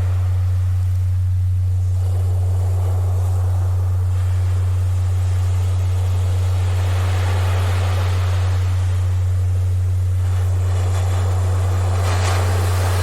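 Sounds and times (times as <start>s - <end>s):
ocean waves washing: 0.0s - 13.0s
steady low tone: 0.0s - 13.0s.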